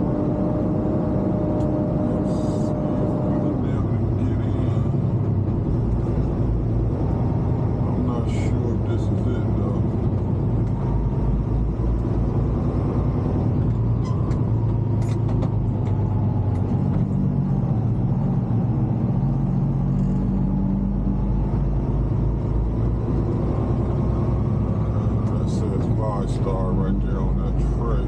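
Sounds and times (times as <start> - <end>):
truck diesel engine droning: 0.0 - 28.0.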